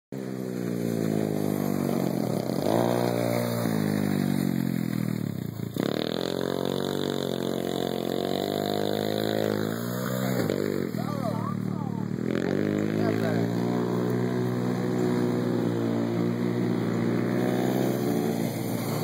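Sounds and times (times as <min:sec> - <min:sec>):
small atv engine revving: 0:00.2 - 0:19.0.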